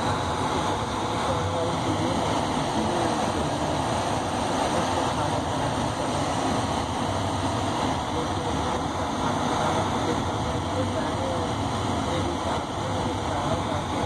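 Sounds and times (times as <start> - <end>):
rushing air: 0.0 - 14.0.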